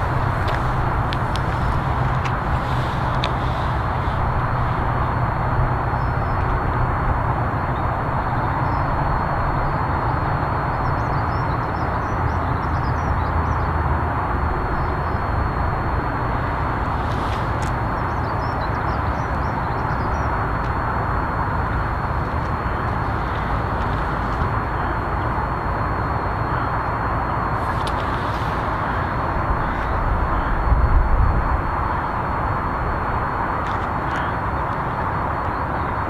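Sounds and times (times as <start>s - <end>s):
steam locomotive roaring: 0.0s - 36.0s.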